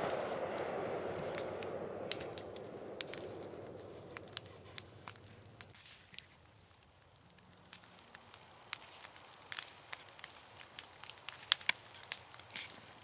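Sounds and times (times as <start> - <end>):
low hiss: 0.0 - 13.0
night insects chirring: 0.0 - 13.0
sharp pops and crackles: 0.0 - 13.0.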